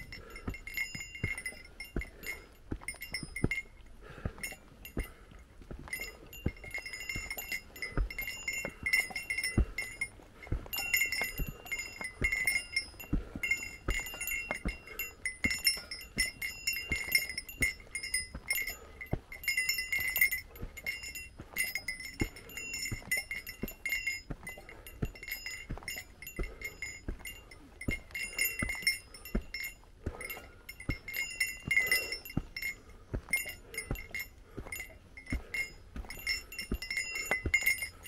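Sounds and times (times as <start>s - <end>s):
footsteps on trail: 0.0s - 38.0s
small bell jingling: 0.0s - 38.0s.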